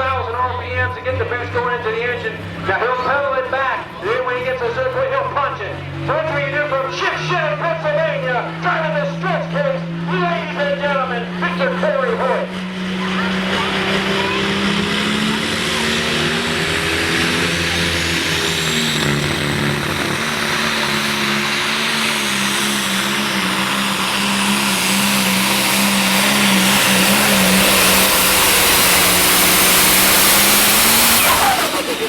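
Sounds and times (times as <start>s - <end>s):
diesel tractor engine at full throttle: 0.0s - 32.0s.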